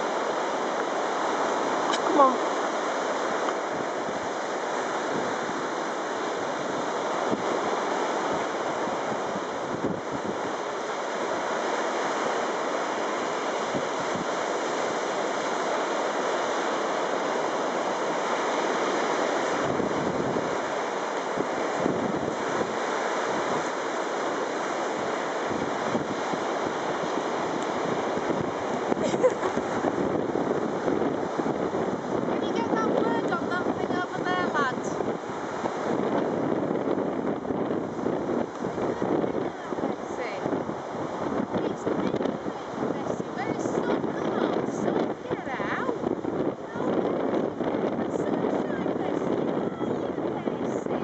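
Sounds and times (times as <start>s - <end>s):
small waves on pebble beach: 0.0s - 51.0s
wind rumbling on microphone: 0.0s - 51.0s.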